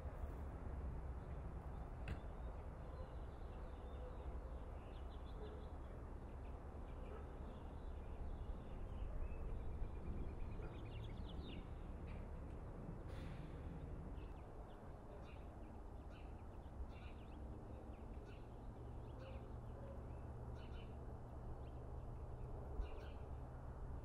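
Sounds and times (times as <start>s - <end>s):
songbirds chirping: 1.1s - 23.4s.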